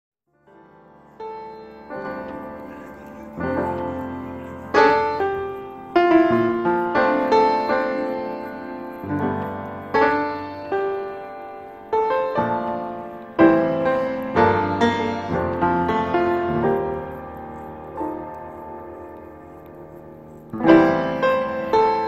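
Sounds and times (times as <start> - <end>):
slow gentle piano music: 0.3 - 22.0.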